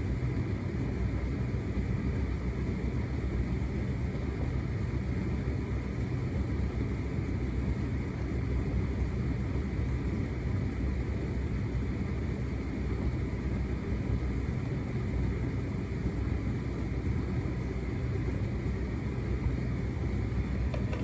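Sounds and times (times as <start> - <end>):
tumble dryer humming: 0.0 - 21.0.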